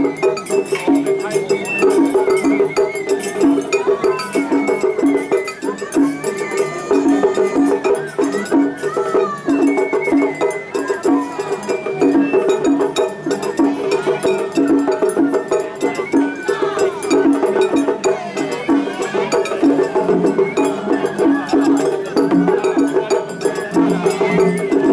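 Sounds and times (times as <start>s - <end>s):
bamboo flute melody: 0.0s - 24.9s
drums beating: 0.0s - 24.9s
voices: 0.0s - 24.9s.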